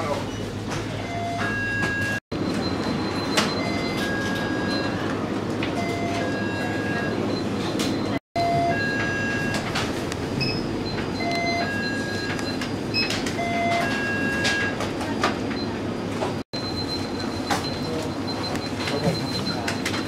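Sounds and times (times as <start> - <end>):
shop hum and hubbub: 0.0 - 20.0.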